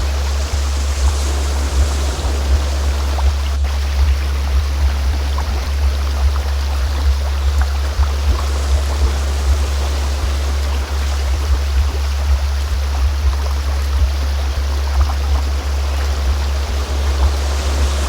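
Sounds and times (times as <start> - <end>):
low frequency tone drone: 0.0 - 18.0
stream water flowing: 0.0 - 18.0.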